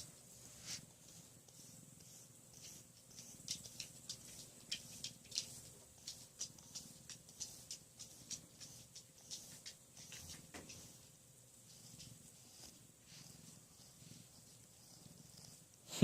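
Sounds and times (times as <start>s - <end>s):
brush swishing through fur: 0.0s - 15.7s.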